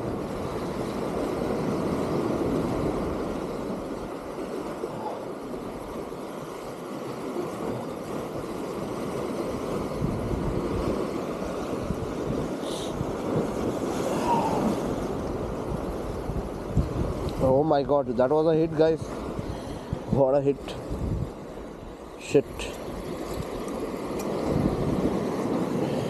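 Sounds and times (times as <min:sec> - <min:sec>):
sea waves breaking on breakwater: 0:00.0 - 0:26.0.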